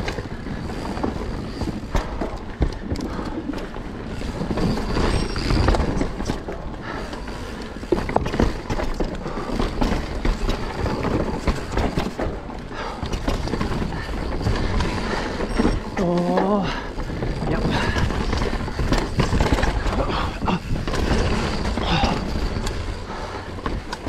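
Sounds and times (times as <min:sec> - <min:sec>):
bike rattling over bumps: 0:00.0 - 0:24.0
bike tyres rolling over dirt: 0:00.0 - 0:24.0.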